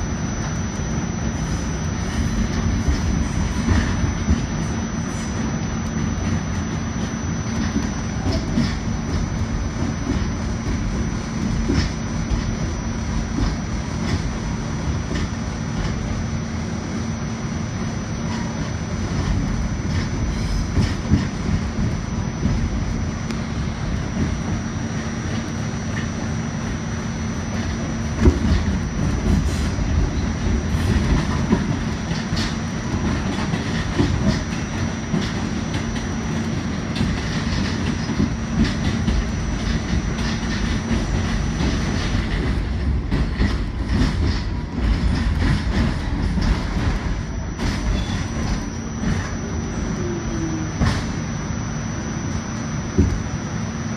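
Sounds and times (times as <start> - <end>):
constant hum: 0.0 - 53.9
subway train wheels rumbling: 0.0 - 53.9.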